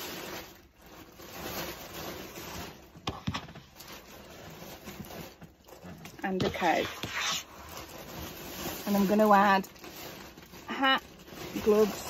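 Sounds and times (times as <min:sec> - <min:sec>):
fabric rustling: 0:00.0 - 0:12.0.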